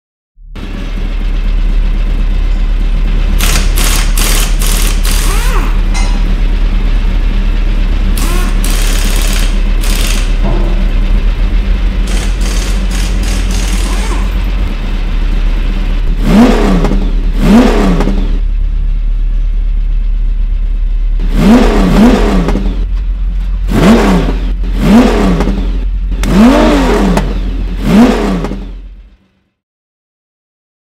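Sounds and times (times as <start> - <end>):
engine throttle blips: 0.4 - 29.4
car engine idling: 0.5 - 29.3.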